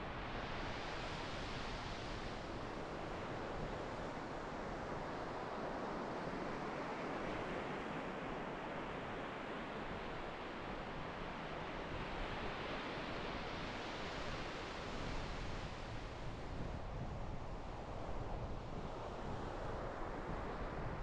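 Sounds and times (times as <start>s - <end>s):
waves breaking on a beach: 0.0s - 21.0s.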